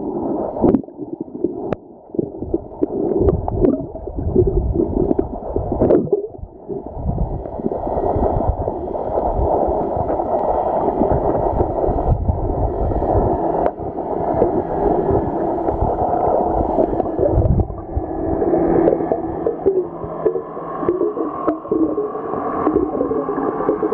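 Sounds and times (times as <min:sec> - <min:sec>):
muffled underwater churning: 0:00.0 - 0:23.9.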